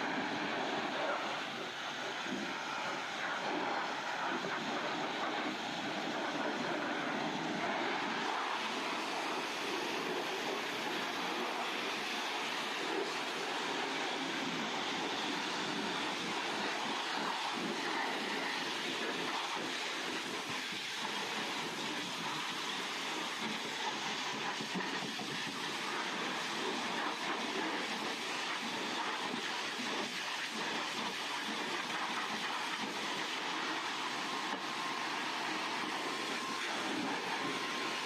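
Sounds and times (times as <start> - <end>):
car wash equipment hissing: 0.0 - 38.0.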